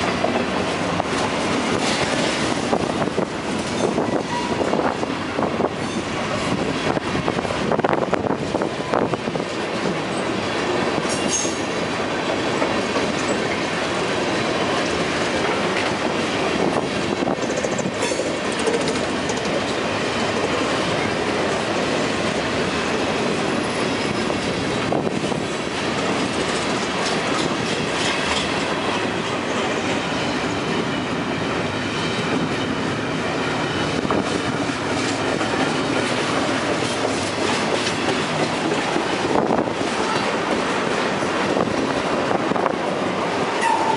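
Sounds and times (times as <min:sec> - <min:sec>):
freight train cars rolling: 0:00.0 - 0:43.9.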